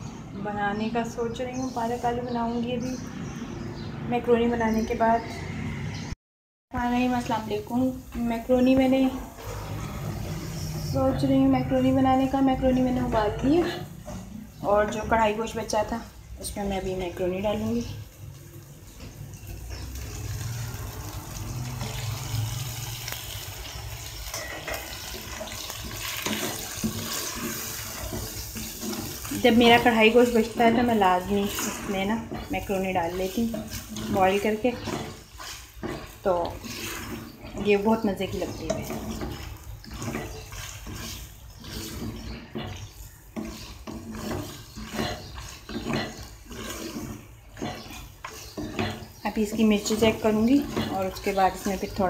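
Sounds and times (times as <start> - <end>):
pan sizzling: 6.7 - 52.0.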